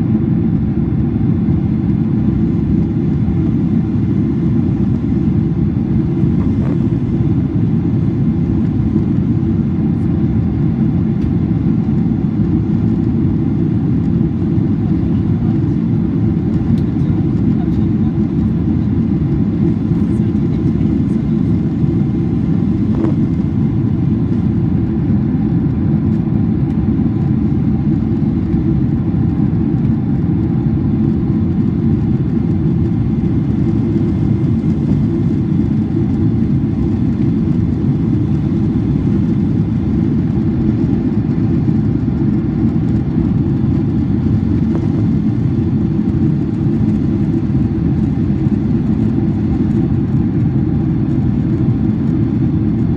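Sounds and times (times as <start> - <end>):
airplane cabin engine noise: 0.0 - 52.9.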